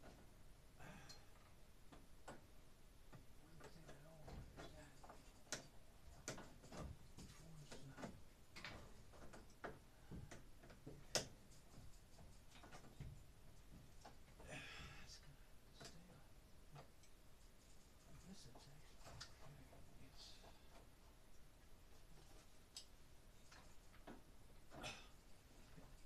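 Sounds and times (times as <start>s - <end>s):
small clicks and knocks from hands: 1.1s - 2.5s, 3.1s - 14.4s, 16.7s - 24.8s.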